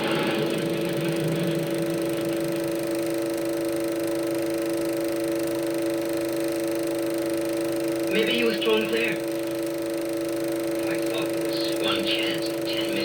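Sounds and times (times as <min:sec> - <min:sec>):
projector soundtrack hum: 0:00.0 - 0:13.0.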